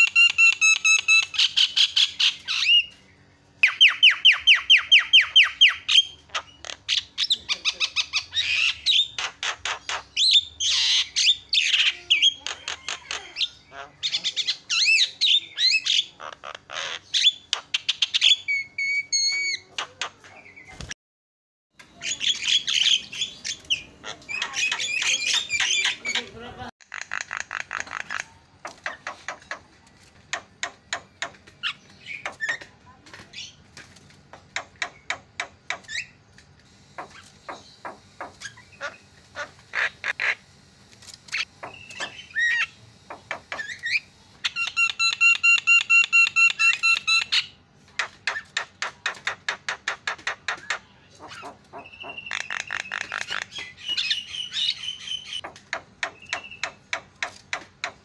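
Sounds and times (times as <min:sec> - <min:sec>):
bird clicks and chatter: 0:00.0 - 0:03.0, 0:03.6 - 0:21.0, 0:21.8 - 0:54.2, 0:55.2 - 0:58.0.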